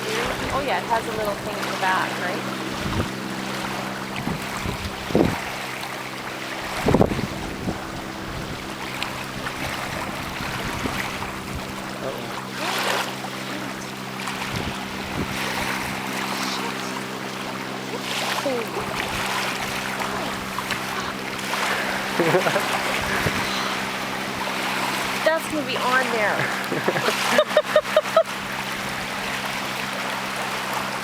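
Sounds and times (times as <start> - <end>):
steady low hum: 0.0 - 31.0
water lapping against boat hull: 0.0 - 31.0
wind: 0.0 - 31.0.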